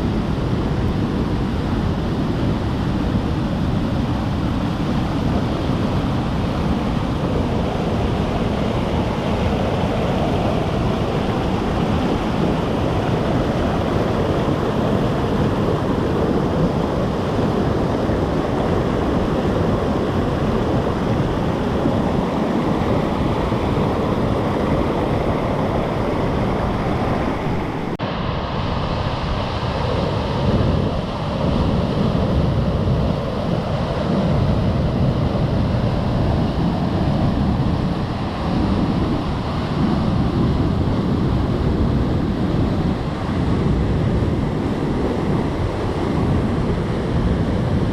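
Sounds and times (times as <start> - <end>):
rushing water of flooded stream: 0.0 - 47.9.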